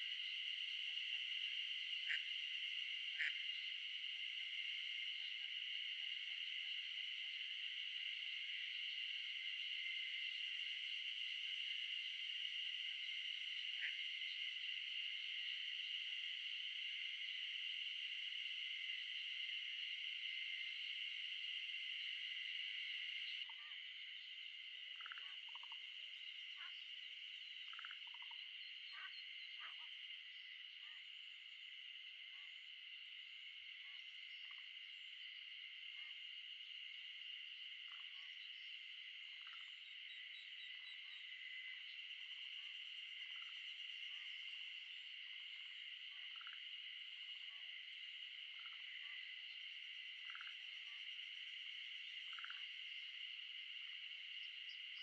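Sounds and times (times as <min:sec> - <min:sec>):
chorus of calling animals: 0:00.0 - 0:55.0
rattling frog croaks: 0:00.0 - 0:55.0.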